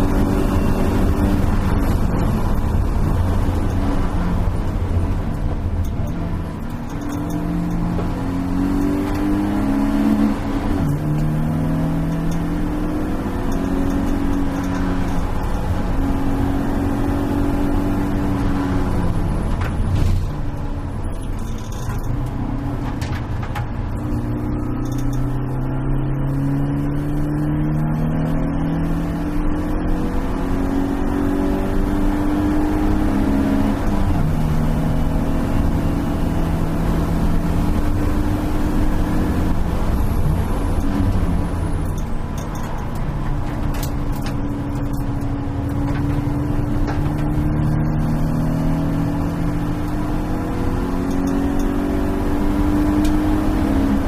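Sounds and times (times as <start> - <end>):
race car engine at full throttle: 0.0 - 54.0
road and wind noise: 0.0 - 54.0.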